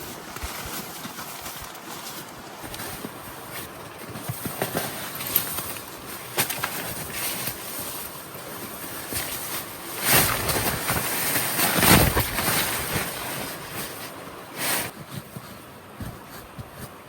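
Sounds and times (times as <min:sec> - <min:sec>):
wind gusting in a snowstorm: 0:00.0 - 0:17.0.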